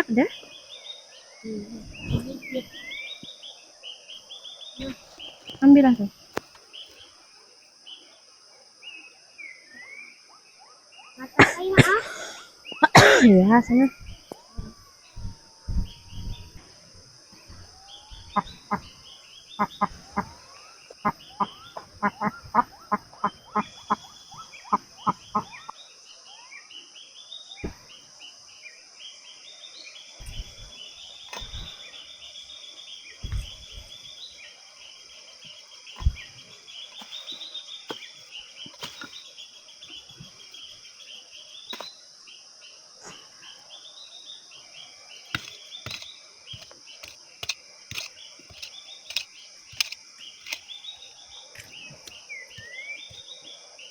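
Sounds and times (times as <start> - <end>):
birds chirping: 0.0 - 26.0, 29.9 - 53.9
high insect drone: 0.0 - 53.9.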